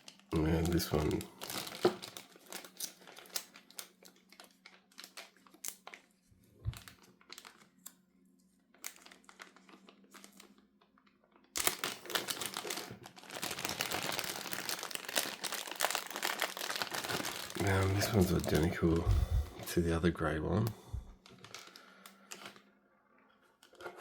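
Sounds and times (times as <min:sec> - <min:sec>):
plastic packaging crinkling: 0:00.0 - 0:08.0, 0:08.7 - 0:19.7, 0:21.2 - 0:22.7.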